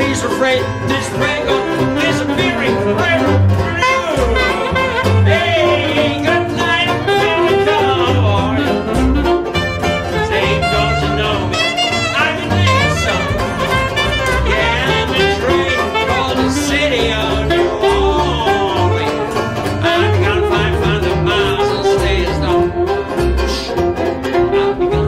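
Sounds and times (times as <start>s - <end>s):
double bass: 0.0s - 25.0s
strummed banjo: 0.0s - 25.0s
saxophone melody: 0.1s - 25.0s.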